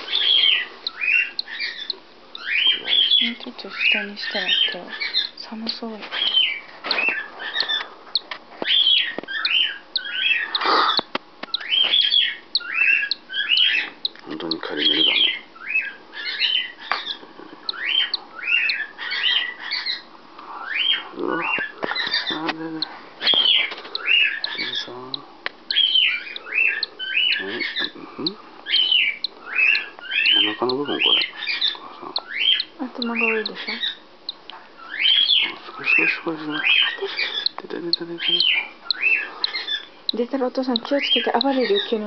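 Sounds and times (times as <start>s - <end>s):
chick peeping: 0.0s - 42.0s
faint bird chirps: 0.0s - 42.0s.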